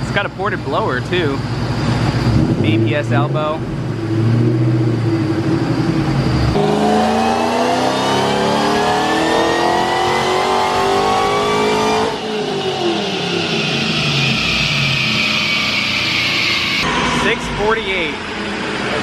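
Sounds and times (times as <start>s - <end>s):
car engine revving at full throttle: 1.4s - 19.0s.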